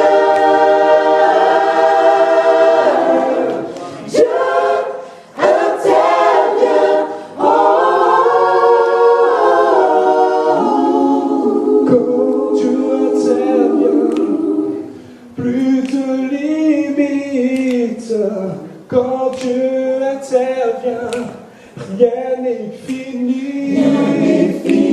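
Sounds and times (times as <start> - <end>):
voices singing a cappella: 0.0 - 24.9.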